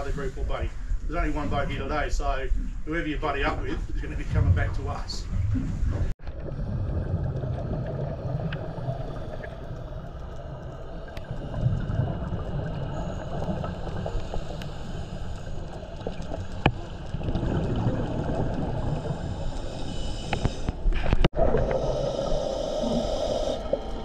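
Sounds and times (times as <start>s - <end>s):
low underwater rumble: 3.5s - 24.0s.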